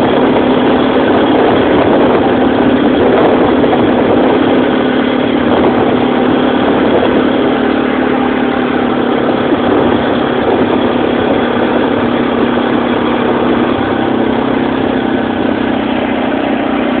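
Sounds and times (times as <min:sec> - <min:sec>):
quad bike engine droning: 0:00.0 - 0:17.0.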